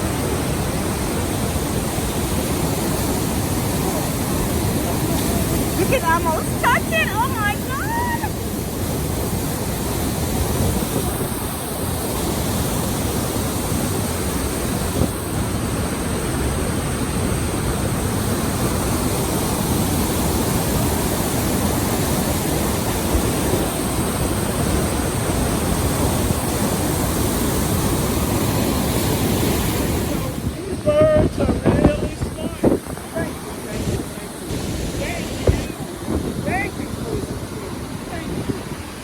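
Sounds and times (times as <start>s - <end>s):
waterfall crashing: 0.0s - 39.0s.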